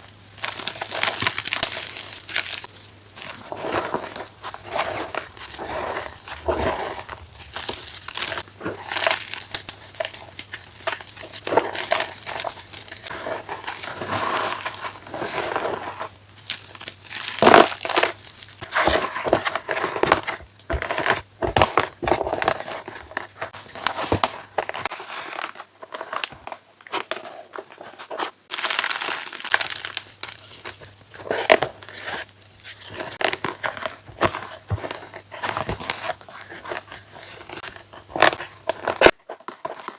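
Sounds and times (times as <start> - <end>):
chalk crunching by hand: 0.0 - 25.6, 28.0 - 39.2.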